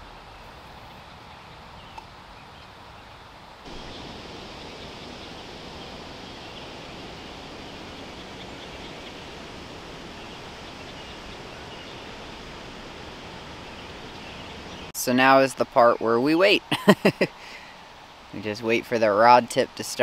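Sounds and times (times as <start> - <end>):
outdoor rushing hiss: 3.6 - 20.0.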